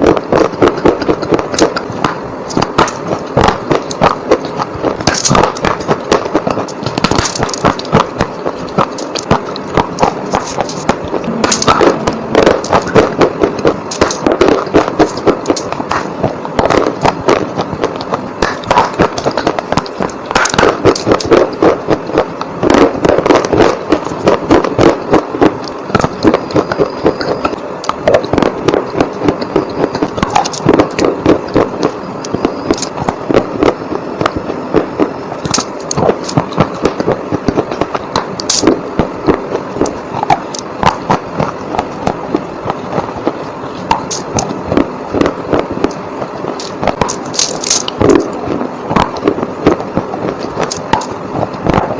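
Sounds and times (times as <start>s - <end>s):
chewing crunchy bars: 0.1s - 51.9s.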